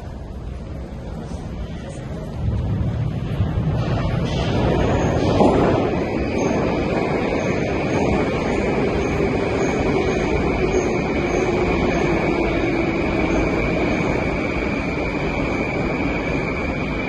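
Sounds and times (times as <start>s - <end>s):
metro platform rumble: 0.0s - 17.0s
high-pitched whine: 1.8s - 17.0s.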